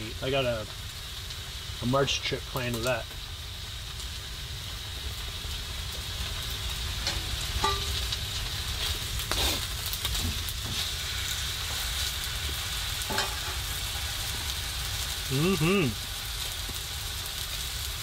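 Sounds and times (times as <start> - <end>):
steak sizzling in a frying pan: 0.0 - 18.0.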